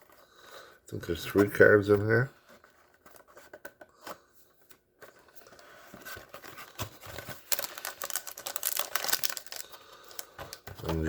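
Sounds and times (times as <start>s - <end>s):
packaging crinkling and rustling: 1.3s - 11.0s.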